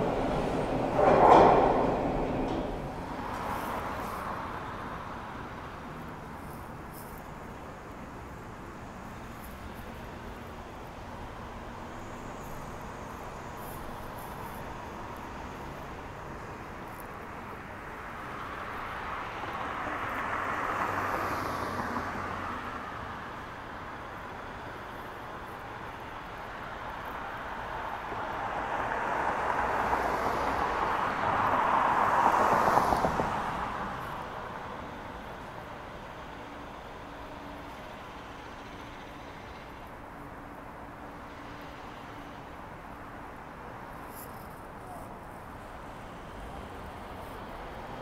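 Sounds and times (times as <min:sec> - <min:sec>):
street traffic: 0:00.0 - 0:48.0
vehicles passing close by: 0:00.0 - 0:48.0.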